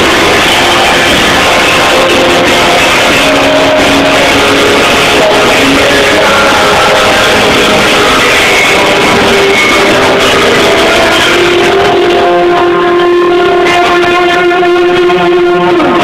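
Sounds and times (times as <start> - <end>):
electric guitars: 0.0 - 16.0
live rock band playing: 0.0 - 16.0.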